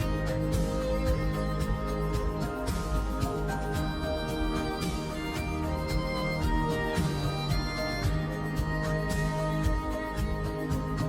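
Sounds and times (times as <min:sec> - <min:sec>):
steady beat: 0:00.0 - 0:11.0.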